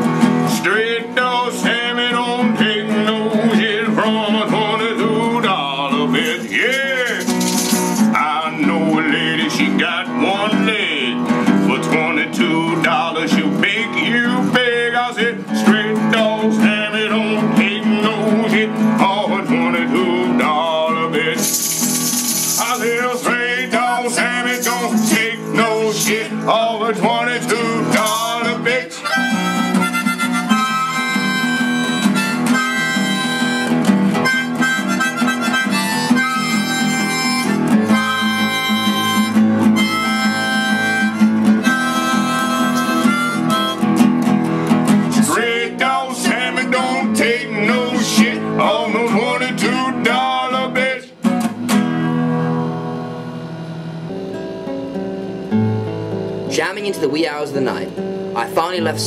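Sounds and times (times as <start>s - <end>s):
blues harmonica: 0.0s - 52.2s
acoustic guitar: 0.0s - 59.0s.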